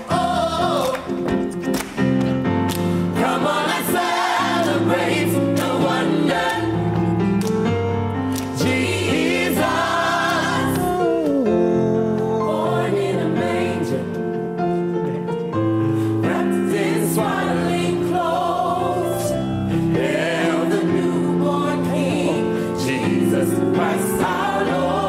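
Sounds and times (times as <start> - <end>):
gospel choir singing: 0.0 - 1.5, 2.4 - 14.4, 16.0 - 25.0.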